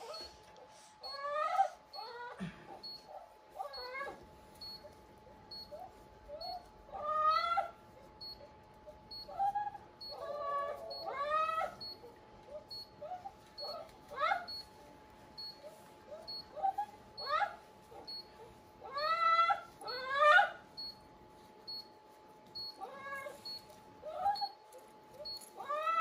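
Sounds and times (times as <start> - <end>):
dog whining: 0.0 - 14.7, 15.4 - 20.9, 22.6 - 26.0.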